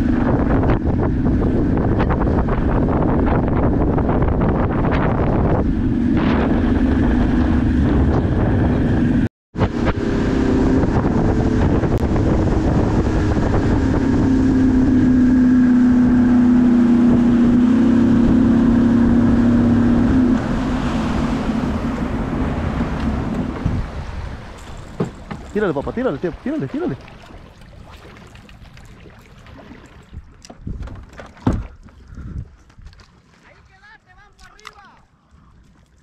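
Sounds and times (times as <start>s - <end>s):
wind buffeting microphone: 0.0s - 33.1s
outboard motor running: 0.0s - 33.5s
water rushing past hull: 0.0s - 36.0s.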